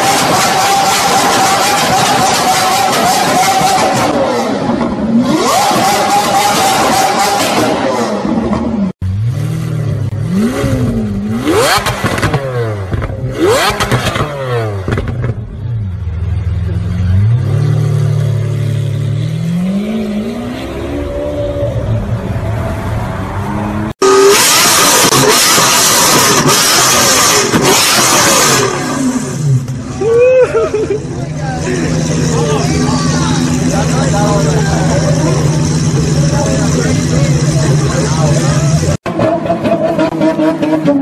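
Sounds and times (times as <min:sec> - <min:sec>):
loud harsh engine revving: 0:00.0 - 0:15.4, 0:17.0 - 0:22.4, 0:23.1 - 0:30.0, 0:31.2 - 0:41.0
sports car engine revving: 0:00.0 - 0:30.0, 0:30.8 - 0:41.0.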